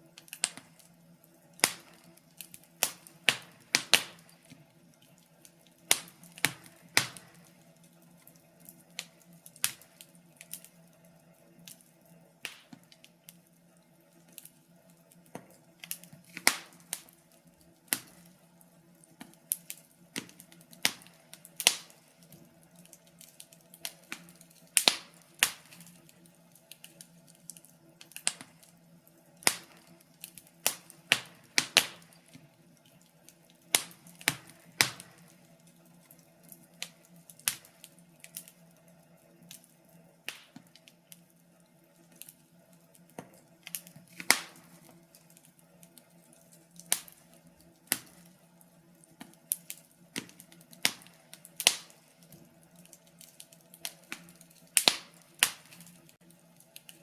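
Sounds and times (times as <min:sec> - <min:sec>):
faint steady low hum: 0:00.0 - 0:57.0
wood fire crackling: 0:00.0 - 0:57.0.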